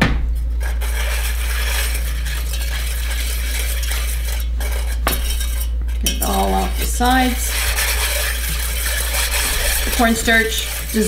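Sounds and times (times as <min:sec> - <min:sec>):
constant low hum: 0:00.0 - 0:11.0
spoon scraping saucepan: 0:00.6 - 0:11.0.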